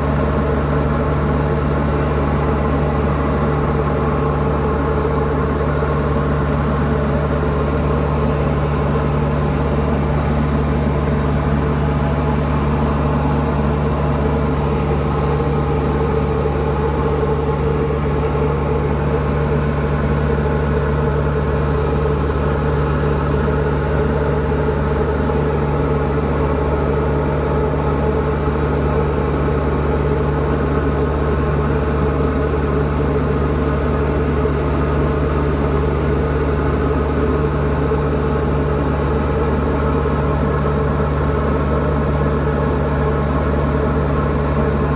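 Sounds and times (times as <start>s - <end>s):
light aircraft engine droning: 0.0s - 44.9s.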